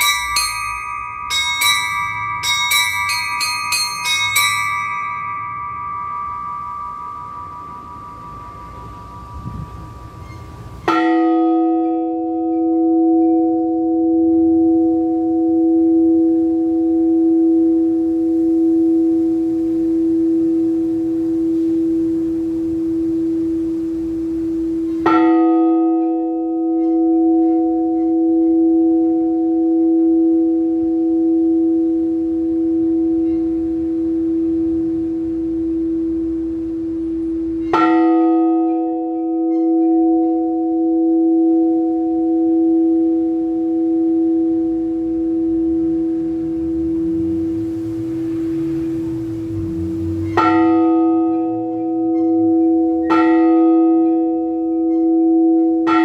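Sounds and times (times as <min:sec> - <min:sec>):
large church bell ringing: 0:00.0 - 0:10.2, 0:10.9 - 0:19.4, 0:25.0 - 0:36.5, 0:37.4 - 0:56.0
smaller higher bell ringing: 0:00.0 - 0:56.0.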